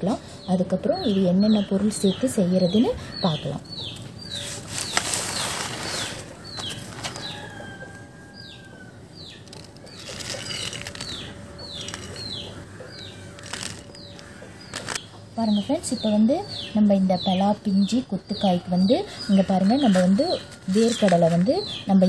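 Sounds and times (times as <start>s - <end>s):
bird chirping: 0.4s - 22.0s.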